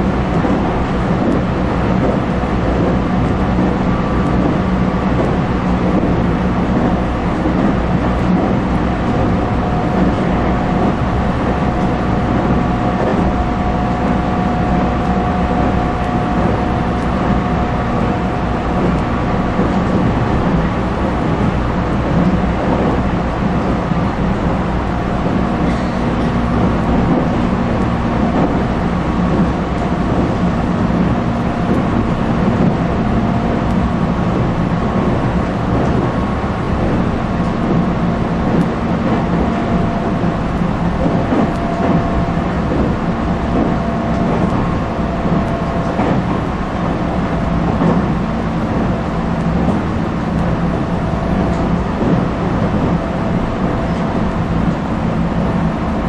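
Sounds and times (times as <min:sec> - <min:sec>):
electric train hum: 0:00.0 - 0:56.0
train wheels rumbling on rails: 0:00.0 - 0:56.0.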